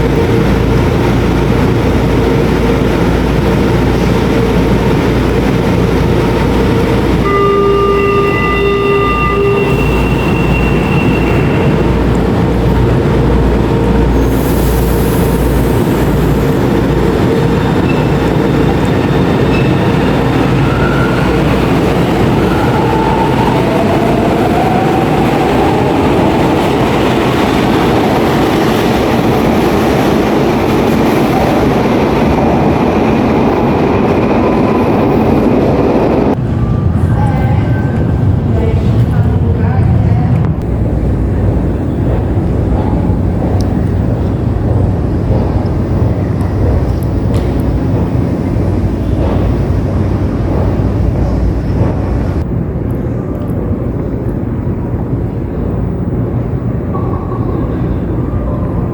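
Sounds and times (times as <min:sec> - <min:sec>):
subway train wheels rumbling: 0:00.0 - 0:58.9.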